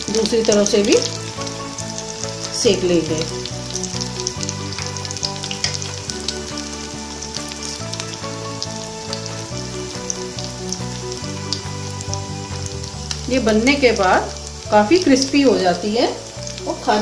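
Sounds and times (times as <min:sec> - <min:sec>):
background music: 0:00.0 - 0:17.0
deep-frying sizzle with pops: 0:00.0 - 0:17.0.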